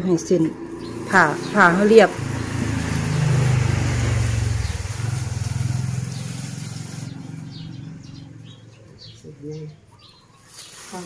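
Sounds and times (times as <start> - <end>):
passing vehicle engine hum: 0.0 - 10.0.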